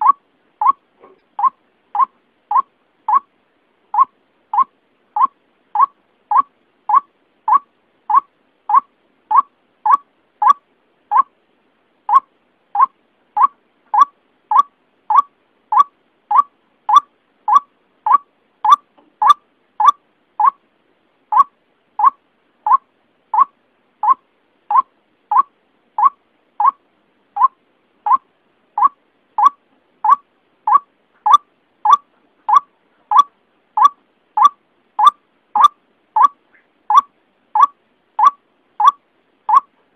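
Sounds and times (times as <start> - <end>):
waterhen call: 0.0 - 0.8, 1.4 - 3.3, 4.0 - 11.3, 12.1 - 20.6, 21.3 - 26.8, 27.4 - 39.7.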